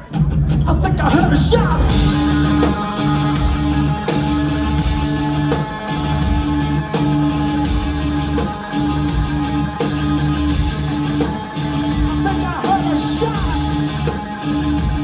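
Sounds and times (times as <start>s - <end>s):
bass guitar: 0.0s - 15.0s
heavy electric guitar riff: 0.8s - 15.0s
guitar pitch dive: 1.5s - 15.0s.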